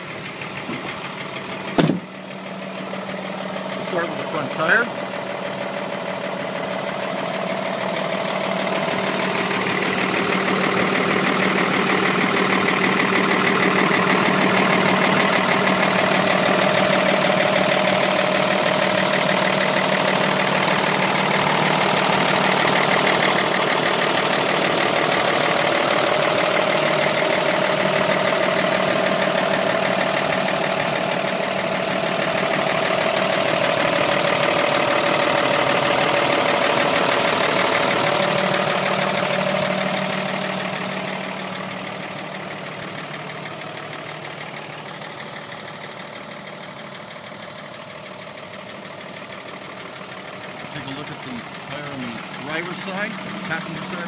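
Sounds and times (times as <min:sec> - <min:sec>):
truck diesel engine idling: 0:00.0 - 0:54.0.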